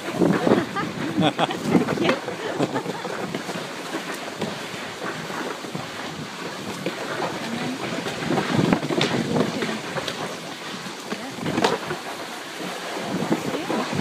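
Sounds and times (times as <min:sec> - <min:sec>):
sharp knocks of bumping sled: 0:00.0 - 0:14.0
wooden runners scraping road: 0:00.0 - 0:14.0.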